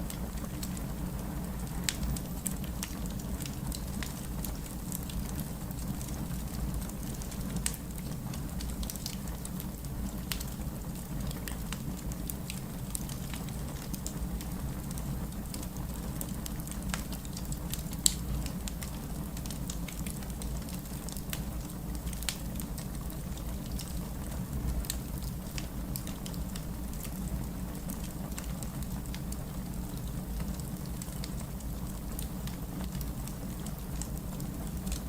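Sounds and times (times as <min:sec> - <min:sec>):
rain falling: 0:00.0 - 0:35.0
wood fire crackling: 0:00.0 - 0:35.0.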